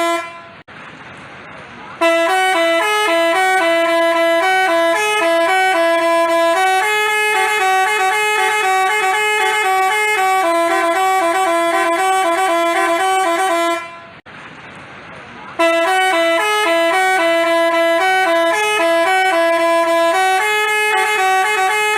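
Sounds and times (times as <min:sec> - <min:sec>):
multi-tone horn playing a tune: 0:00.0 - 0:00.6, 0:02.0 - 0:14.2, 0:15.6 - 0:21.9.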